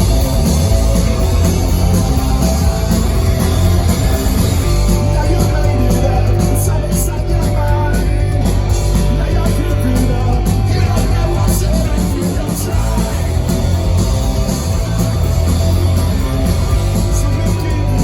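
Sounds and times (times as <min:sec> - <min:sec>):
bass and drums: 0:00.0 - 0:18.0
distorted electric guitars: 0:00.0 - 0:18.0.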